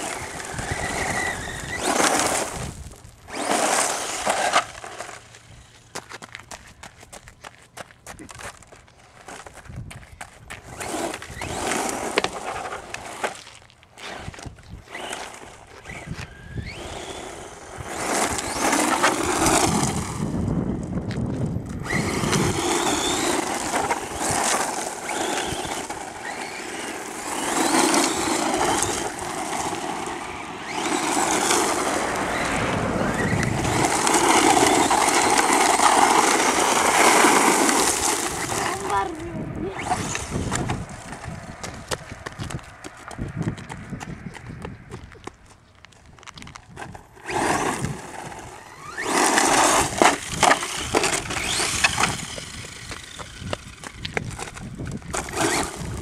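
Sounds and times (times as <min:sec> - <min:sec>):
electric motor whine: 0:00.0 - 0:06.0, 0:10.6 - 0:13.4, 0:14.0 - 0:42.6, 0:47.1 - 0:56.0
gravel crunching under tyres: 0:00.0 - 0:56.0.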